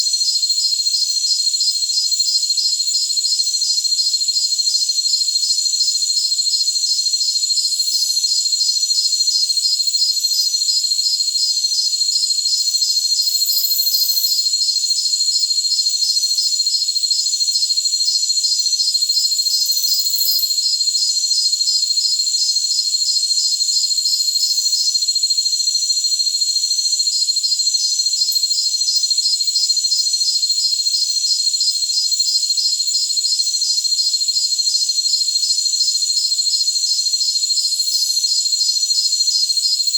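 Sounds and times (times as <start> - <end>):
cricket chirping pulse: 0.1 - 39.9
crickets trilling: 0.1 - 39.9.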